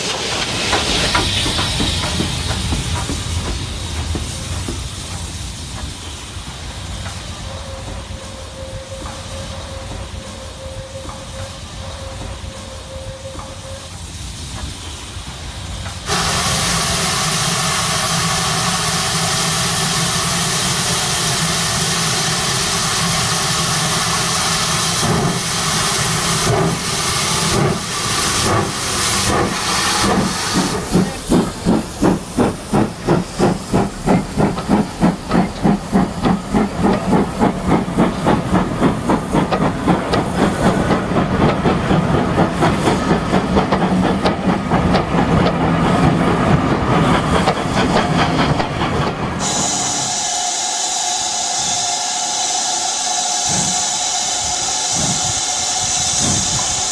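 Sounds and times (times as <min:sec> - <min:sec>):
steam hissing: 0:00.0 - 0:56.9
steam locomotive chuffing: 0:00.0 - 0:56.9.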